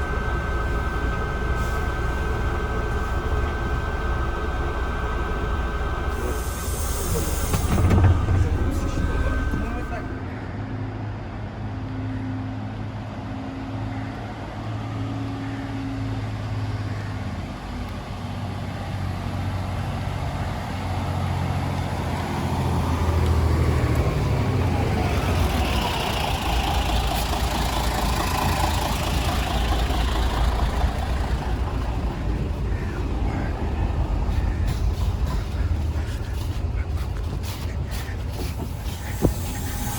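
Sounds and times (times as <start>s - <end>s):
road noise rushing: 0.0s - 11.8s, 12.5s - 39.9s
bus diesel engine droning: 0.0s - 39.9s.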